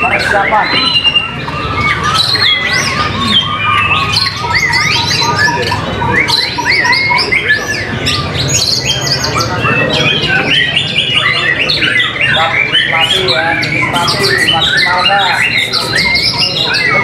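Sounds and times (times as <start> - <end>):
birds singing whistles and trills: 0.0 - 17.0.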